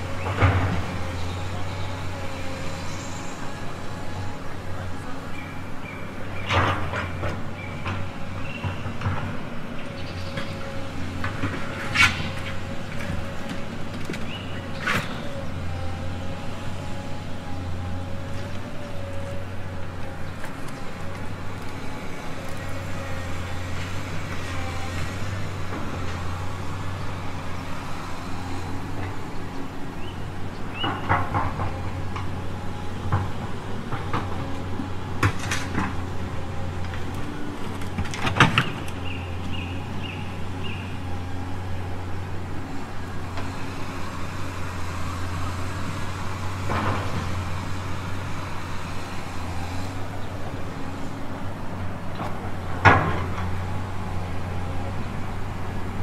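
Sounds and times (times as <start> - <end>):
excavator humming: 0.0 - 56.0.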